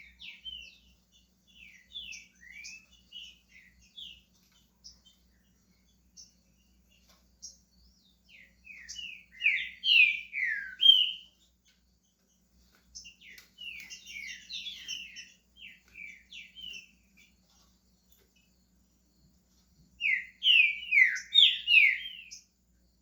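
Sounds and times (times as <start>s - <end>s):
bird song whistled notes: 0.0s - 23.0s.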